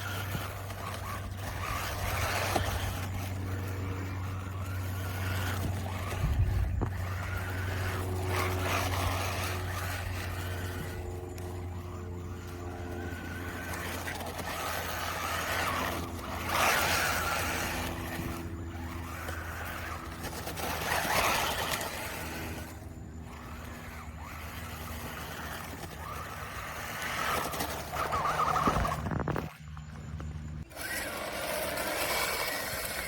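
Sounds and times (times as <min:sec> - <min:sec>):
rc car motor whine: 0:00.0 - 0:33.0
steady low hum: 0:00.0 - 0:33.0
tyre and road noise: 0:00.0 - 0:33.0.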